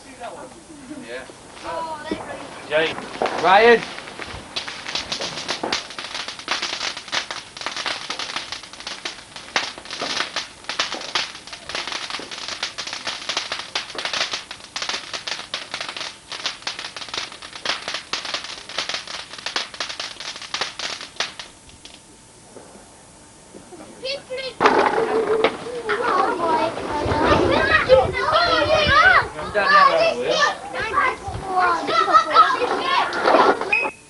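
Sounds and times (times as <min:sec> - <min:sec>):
firework crackling: 0:00.0 - 0:33.8.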